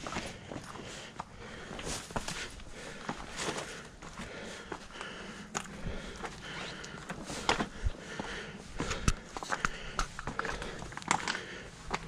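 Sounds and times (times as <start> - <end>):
footsteps crunching on stones: 0.0 - 12.0.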